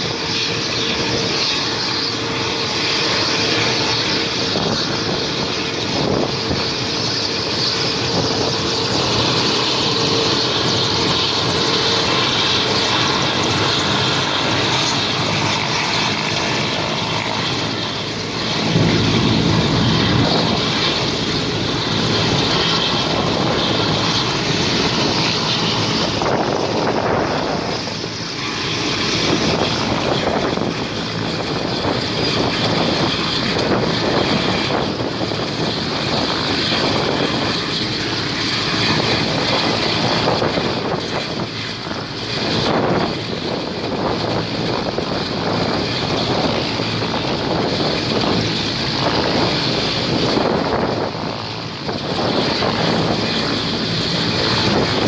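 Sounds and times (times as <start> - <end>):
helicopter engines and rotor running: 0.0 - 55.0.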